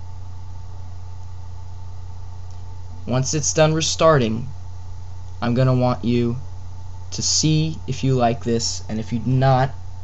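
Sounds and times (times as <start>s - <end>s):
faint high whine: 0.0s - 10.0s
low electrical hum: 0.0s - 10.0s.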